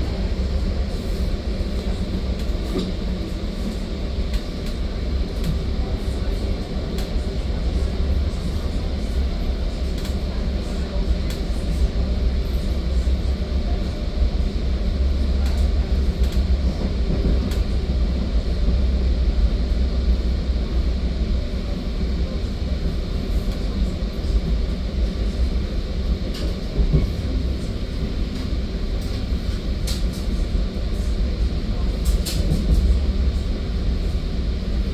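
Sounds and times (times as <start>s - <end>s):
train rumble inside passenger car: 0.0s - 34.9s.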